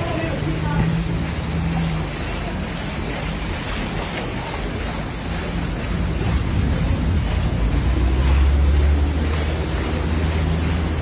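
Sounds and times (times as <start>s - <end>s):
heavy rain: 0.0s - 11.0s
running floodwater: 0.0s - 11.0s
wind rumbling on microphone: 0.0s - 11.0s.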